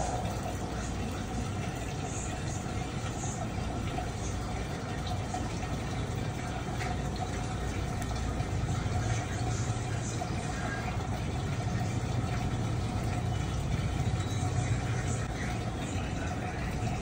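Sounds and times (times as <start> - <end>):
faint constant tone: 0.0 - 17.0
low machine hum: 0.0 - 17.0.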